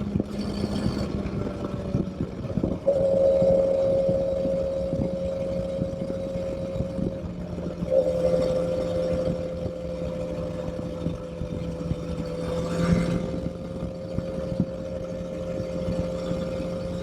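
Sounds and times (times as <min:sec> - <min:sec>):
motorcycle engine cruising: 0:00.0 - 0:17.0
wind buffeting microphone: 0:00.0 - 0:17.0.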